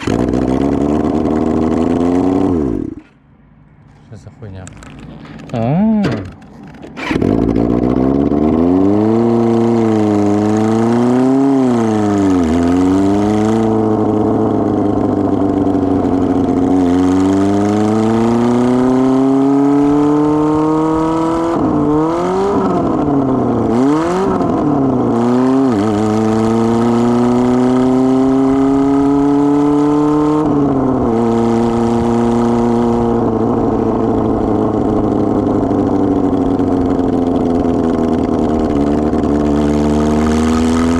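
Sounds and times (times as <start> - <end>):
motorcycle engine without muffler: 0.0 - 40.9.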